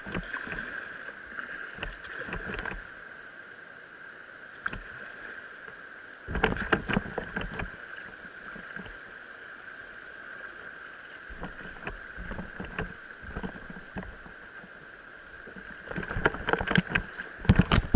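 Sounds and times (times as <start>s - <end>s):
water splashing against kayak: 0.0s - 3.1s, 4.5s - 17.9s
rushing water: 0.0s - 17.9s.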